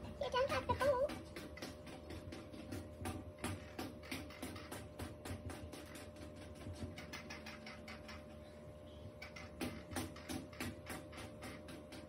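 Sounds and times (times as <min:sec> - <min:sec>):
beak tapping in metal bowl: 0:00.0 - 0:08.3, 0:09.2 - 0:12.0.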